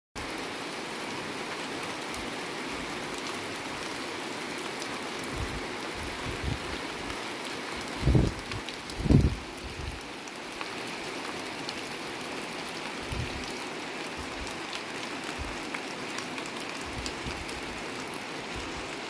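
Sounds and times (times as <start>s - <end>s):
steady rain pattering: 0.2s - 19.0s.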